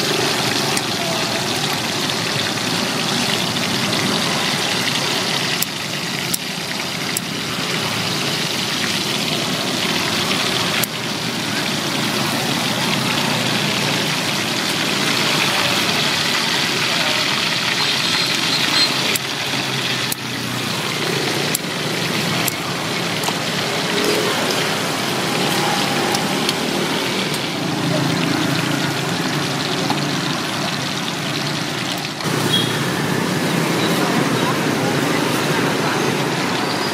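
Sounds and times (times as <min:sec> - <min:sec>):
deep-frying sizzle and bubbling: 0:00.0 - 0:36.9
street traffic: 0:00.0 - 0:36.9.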